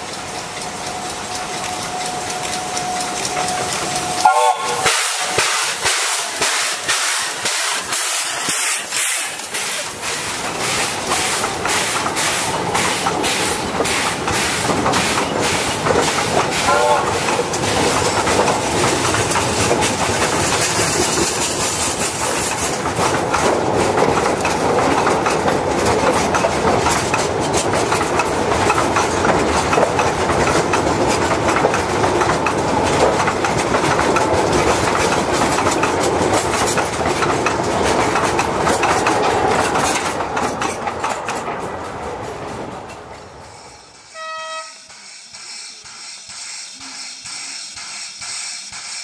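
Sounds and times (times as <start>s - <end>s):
train wheels clattering on rails: 0.0s - 49.0s.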